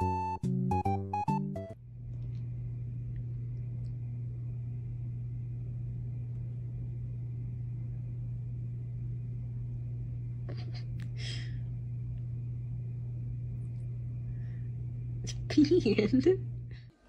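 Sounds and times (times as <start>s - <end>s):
low background hum: 1.7s - 17.0s.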